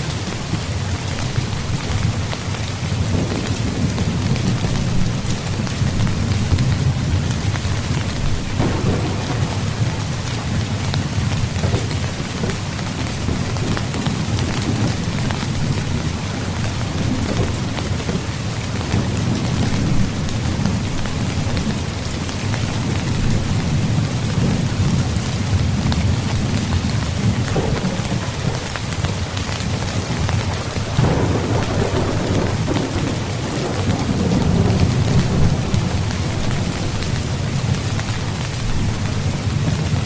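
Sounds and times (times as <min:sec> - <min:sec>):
rain on a tent: 0:00.0 - 0:40.0
low rumble of thunder: 0:00.2 - 0:40.0.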